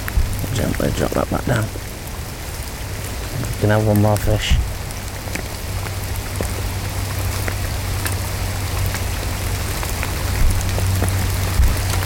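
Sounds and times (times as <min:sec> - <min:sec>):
heavy rain on plastic bag: 0:00.0 - 0:12.0.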